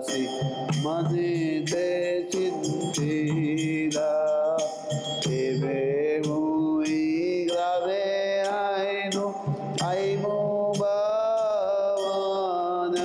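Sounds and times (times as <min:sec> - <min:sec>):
person chanting: 0:00.0 - 0:13.0
sharp percussion strikes: 0:00.0 - 0:13.0.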